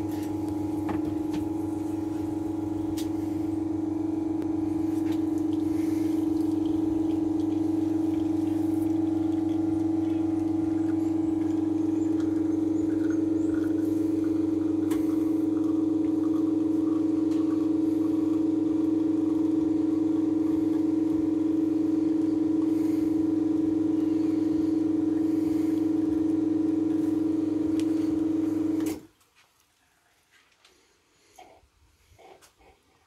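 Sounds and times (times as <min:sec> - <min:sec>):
espresso machine pump humming: 0:00.0 - 0:29.1.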